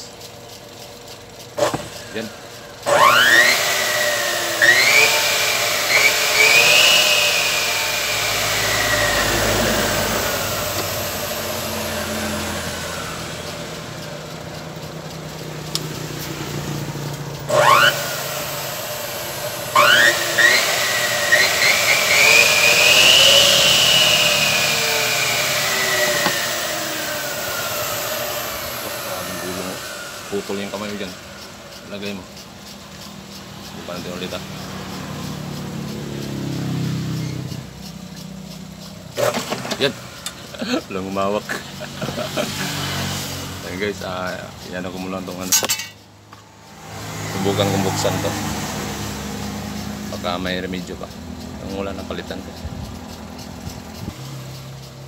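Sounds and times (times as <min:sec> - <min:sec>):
saw motor whine: 0:00.8 - 0:46.0, 0:46.6 - 0:55.0.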